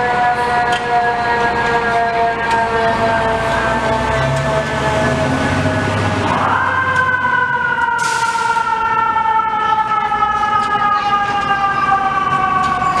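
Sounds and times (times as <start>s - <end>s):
fire engine siren: 0.0s - 13.0s.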